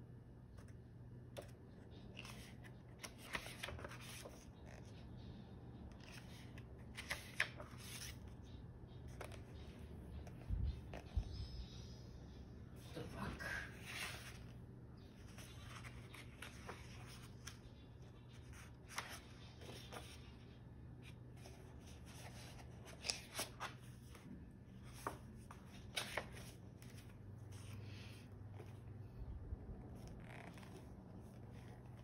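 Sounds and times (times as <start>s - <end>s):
book pages rustling: 0.5s - 5.0s, 5.9s - 11.4s, 13.7s - 32.0s.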